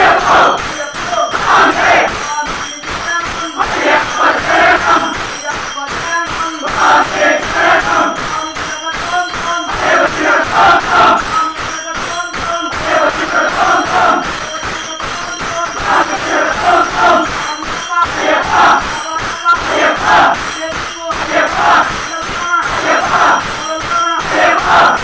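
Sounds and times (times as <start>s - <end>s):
hand clapping: 0.0s - 25.0s
hand cymbals: 0.0s - 25.0s
men singing in chorus: 0.0s - 25.0s.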